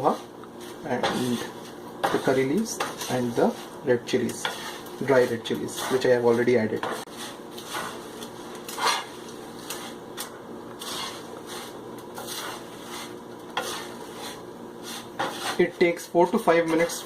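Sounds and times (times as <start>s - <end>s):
spatula scraping a pan: 0.0s - 17.0s.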